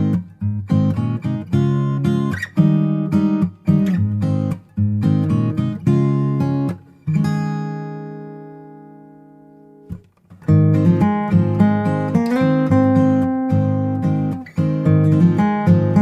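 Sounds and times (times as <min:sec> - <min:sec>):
strummed acoustic guitar chords: 0:00.0 - 0:16.0.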